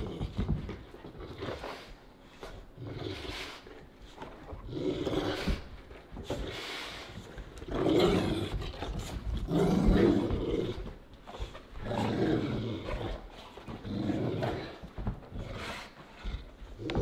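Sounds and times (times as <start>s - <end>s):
dogs growling in play: 0.0s - 17.0s.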